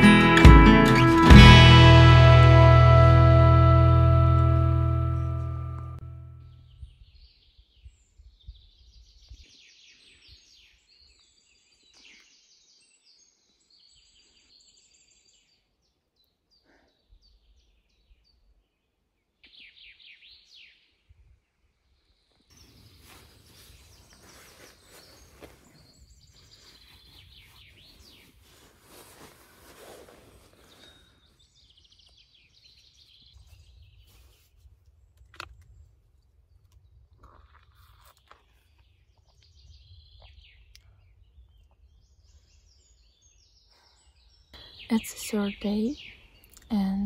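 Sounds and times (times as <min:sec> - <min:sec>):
songbirds singing: 0:06.5 - 0:21.0, 0:21.6 - 0:28.4, 0:30.5 - 0:47.0.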